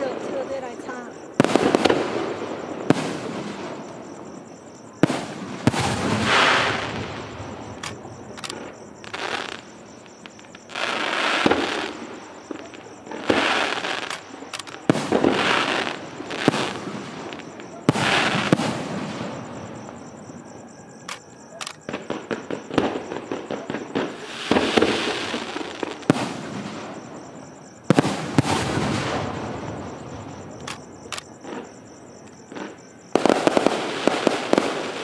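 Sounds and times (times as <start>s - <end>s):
firework crackling: 0.0s - 20.2s, 21.8s - 31.8s, 32.5s - 35.0s
firework bangs: 0.0s - 20.7s, 21.4s - 35.0s.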